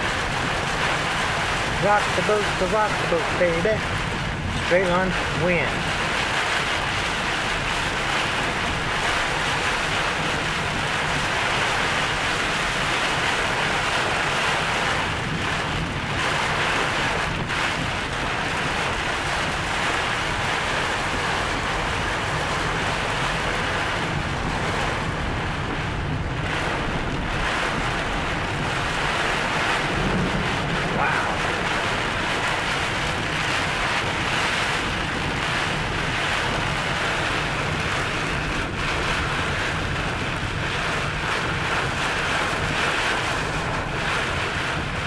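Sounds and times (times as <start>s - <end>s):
gusting wind: 0.0s - 45.0s
heavy rain battering a car: 0.0s - 45.0s.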